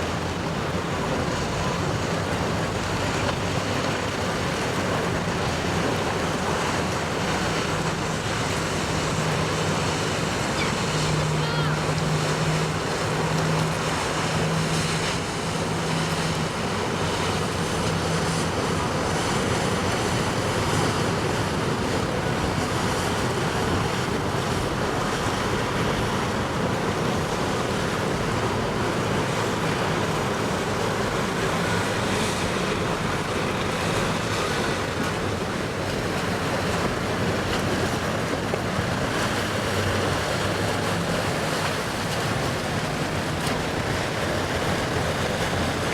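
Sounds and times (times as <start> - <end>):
boat engines humming: 0.0 - 45.9
surf rushing: 0.0 - 45.9.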